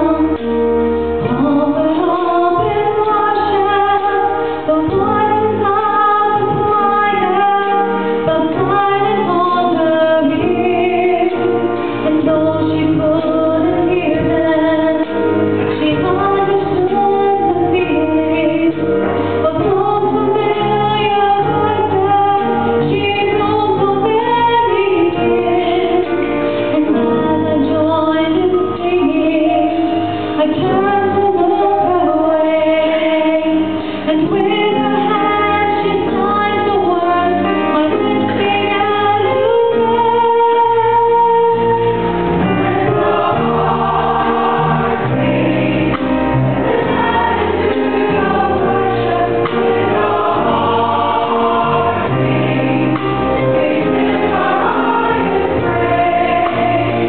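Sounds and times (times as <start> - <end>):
choir singing gospel: 1.2 - 57.0.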